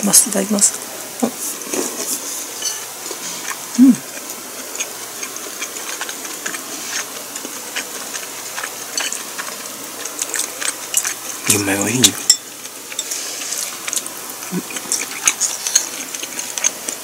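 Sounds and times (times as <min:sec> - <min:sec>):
soft chewing and mouth sounds: 0:00.7 - 0:17.0.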